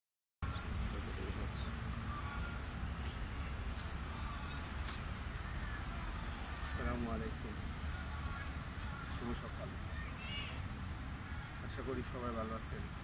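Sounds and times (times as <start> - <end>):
insect trilling: 0.4 - 13.0.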